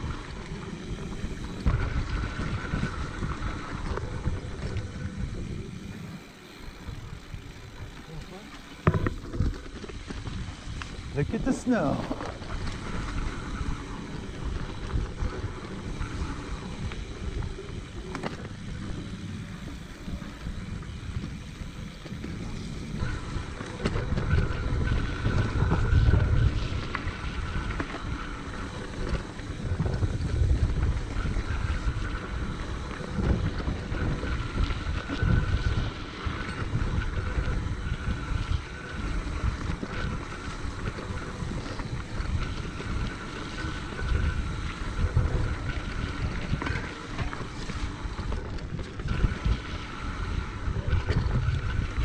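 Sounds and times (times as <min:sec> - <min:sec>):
bike rattling over bumps: 0:00.0 - 0:52.0
tyres rolling over dirt: 0:00.0 - 0:52.0
wind buffeting microphone: 0:00.0 - 0:52.0.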